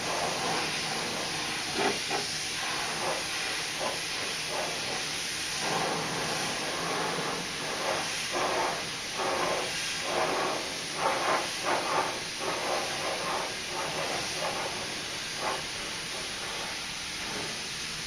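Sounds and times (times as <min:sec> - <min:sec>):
spray gun hissing: 0:00.0 - 0:18.0.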